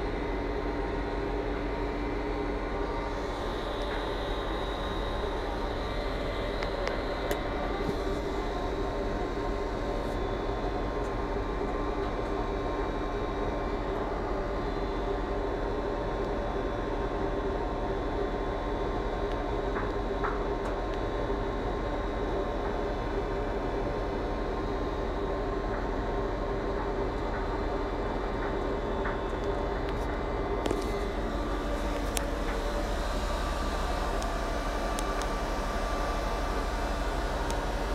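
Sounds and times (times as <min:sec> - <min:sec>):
industrial machinery rumbling: 0:00.0 - 0:37.9
steady machine tones: 0:00.0 - 0:37.9.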